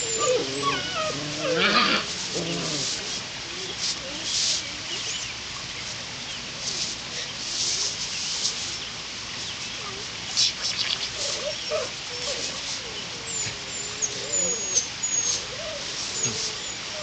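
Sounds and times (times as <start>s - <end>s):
brush swishing over grass: 0.0s - 17.0s.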